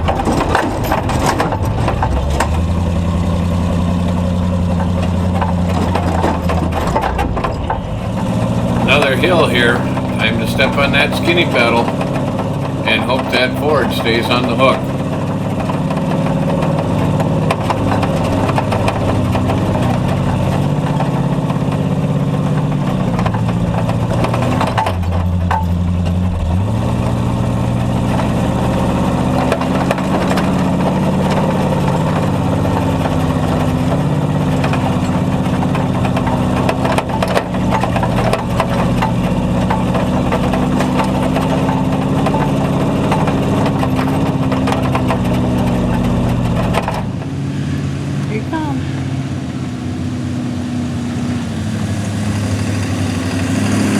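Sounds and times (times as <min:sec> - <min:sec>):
truck engine running under load: 0:00.0 - 0:53.9.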